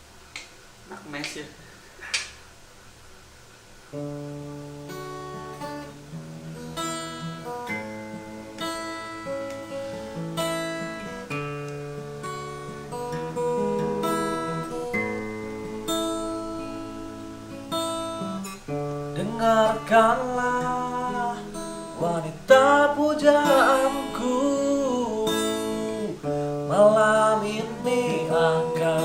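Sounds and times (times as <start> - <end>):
acoustic guitar chords: 3.1 - 29.0.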